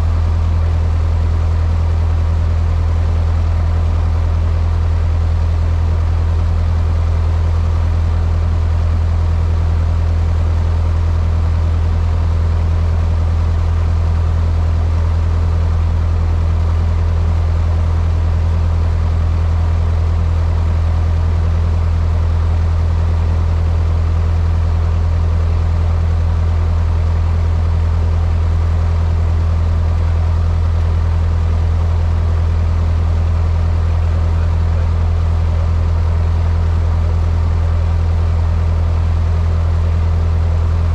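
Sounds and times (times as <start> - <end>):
light aircraft engine drone in cockpit: 0.0 - 40.9.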